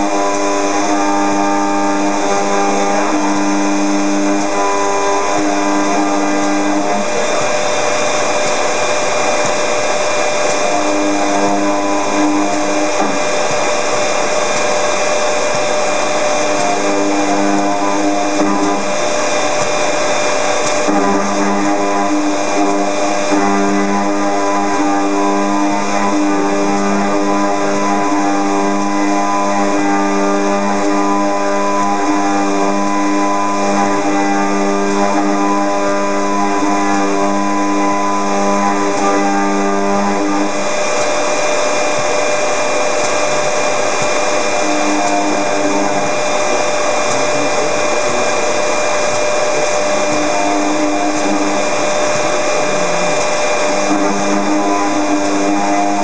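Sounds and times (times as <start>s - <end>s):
hissing cutting noise: 0.0s - 56.0s
milling spindle whine: 0.0s - 56.0s.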